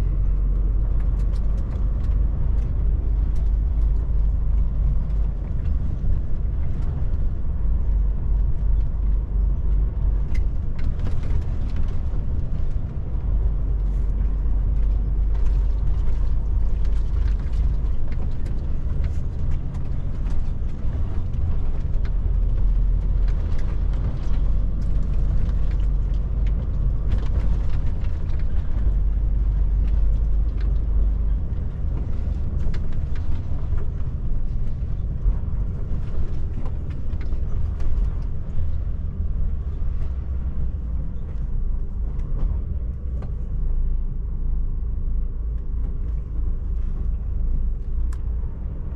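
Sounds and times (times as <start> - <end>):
truck engine drone: 0.0 - 48.9.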